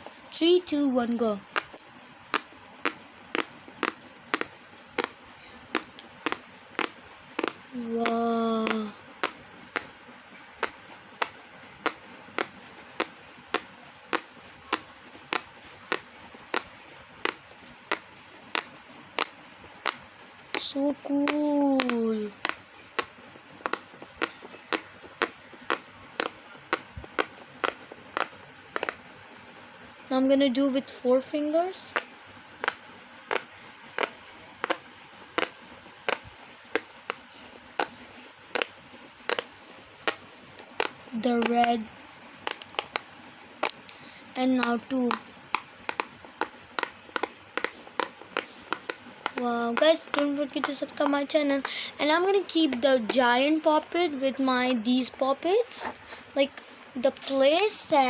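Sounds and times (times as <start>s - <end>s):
fidget toy bubbles popping: 0.4s - 29.1s, 30.1s - 58.0s.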